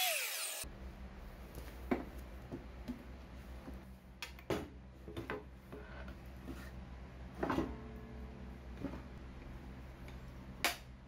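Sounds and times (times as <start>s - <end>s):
low steady hum: 0.6s - 11.0s.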